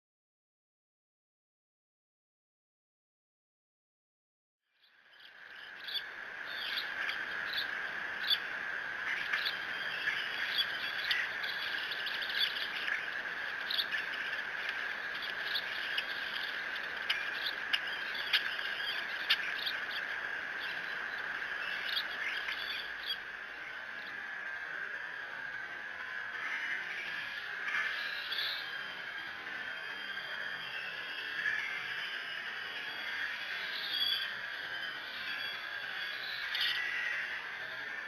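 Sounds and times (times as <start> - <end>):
high-pitched insect chorus: 4.8 - 38.0.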